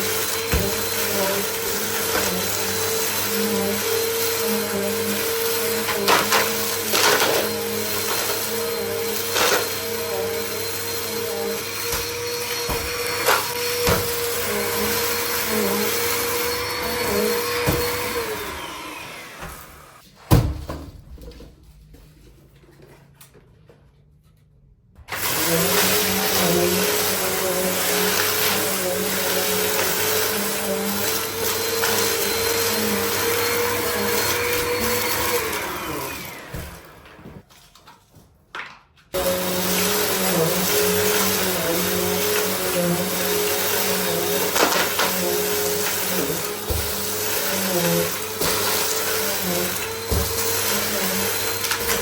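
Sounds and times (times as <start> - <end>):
vacuum cleaner running: 0.0 - 20.1, 25.1 - 37.4, 39.2 - 52.0.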